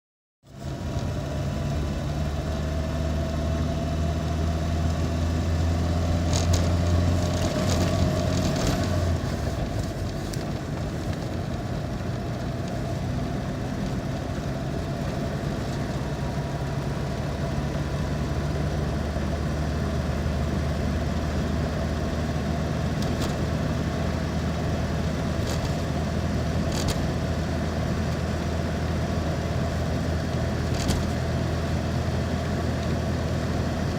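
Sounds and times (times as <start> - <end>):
car engine running: 0.5 - 33.9
road noise: 0.5 - 33.9.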